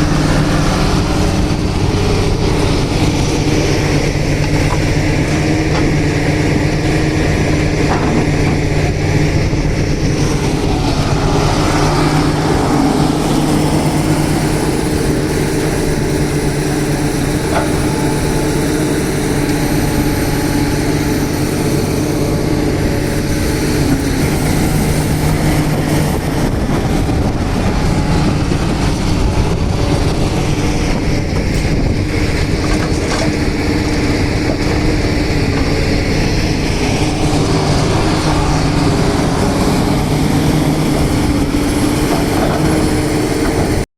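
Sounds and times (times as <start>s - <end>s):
backhoe diesel engine running: 0.0s - 43.9s.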